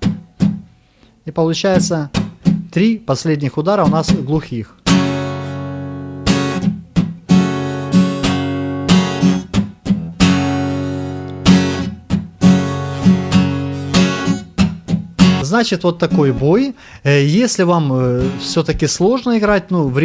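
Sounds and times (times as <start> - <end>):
acoustic guitar strumming: 0.0 - 1.1, 1.7 - 20.0.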